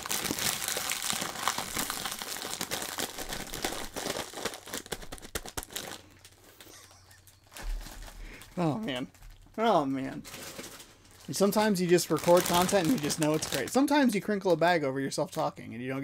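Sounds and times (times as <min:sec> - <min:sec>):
chip bag crinkling: 0:00.0 - 0:14.0.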